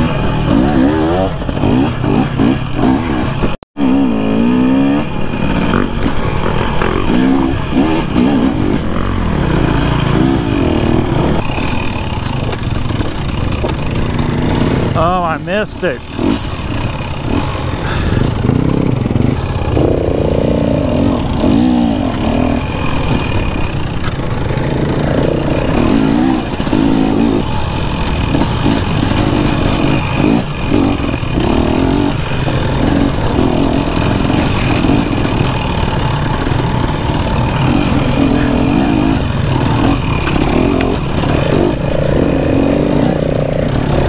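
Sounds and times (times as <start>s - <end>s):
dirt bike engine revving: 0.0s - 44.0s
knocks and clatter from trail: 5.2s - 15.4s, 16.0s - 44.0s.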